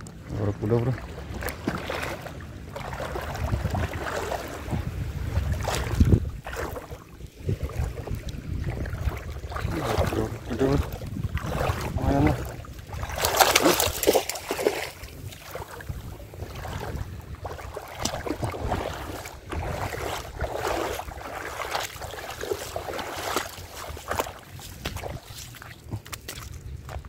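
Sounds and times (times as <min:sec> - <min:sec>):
feet sloshing through water: 0:00.0 - 0:27.0
wind rumbling on microphone: 0:00.0 - 0:27.0.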